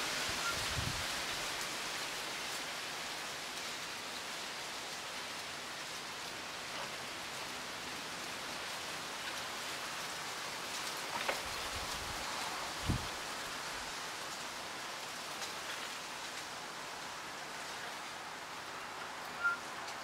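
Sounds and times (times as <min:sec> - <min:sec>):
wind rustling leaves: 0:00.0 - 0:20.0.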